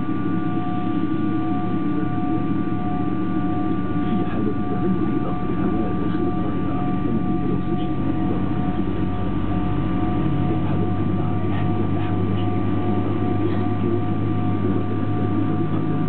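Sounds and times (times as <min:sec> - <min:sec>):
jet engine rumble with whining tones: 0:00.0 - 0:16.0.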